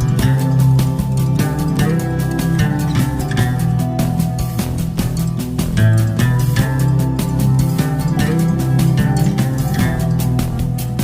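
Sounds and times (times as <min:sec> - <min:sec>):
drums: 0:00.0 - 0:11.0
sustained instrumental notes: 0:00.0 - 0:11.0.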